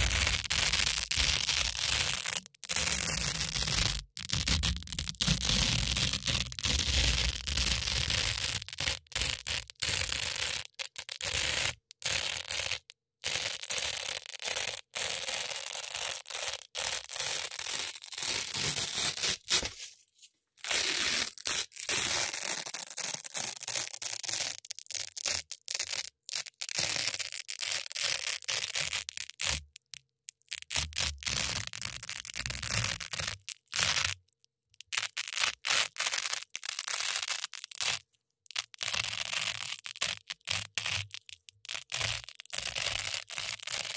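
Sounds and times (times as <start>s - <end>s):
hook-and-loop strips ripping: 0.0s - 29.6s, 30.4s - 34.2s, 34.8s - 43.9s.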